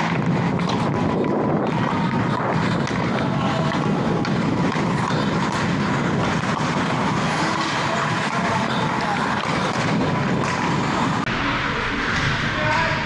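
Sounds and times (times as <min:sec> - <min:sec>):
skate blades scraping on ice: 0:00.0 - 0:11.3.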